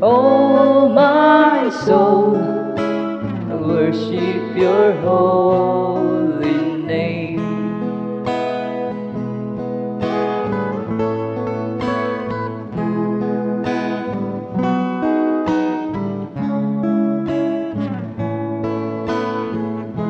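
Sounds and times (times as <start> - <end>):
acoustic guitar strummed chords: 0.0 - 20.0.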